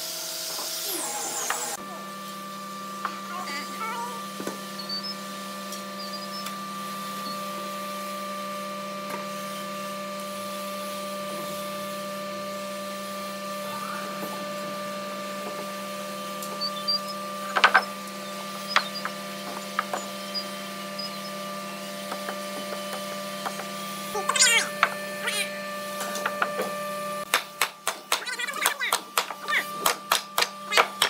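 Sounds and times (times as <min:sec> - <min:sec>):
workshop machine humming: 0:00.0 - 0:31.0.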